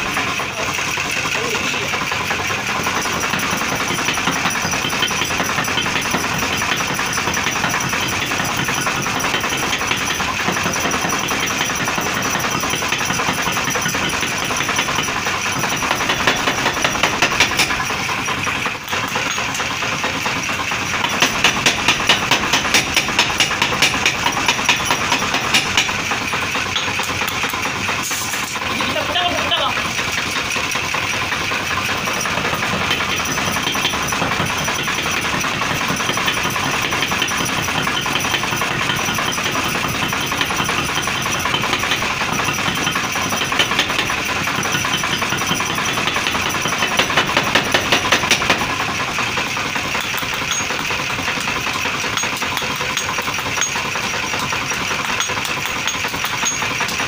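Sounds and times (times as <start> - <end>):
power hammer machine running: 0.0 - 57.0.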